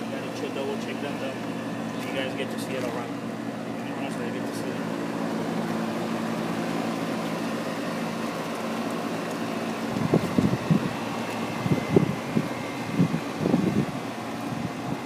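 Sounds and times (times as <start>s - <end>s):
air conditioning unit humming: 0.0s - 15.0s
low rumbling buffets: 0.0s - 15.0s.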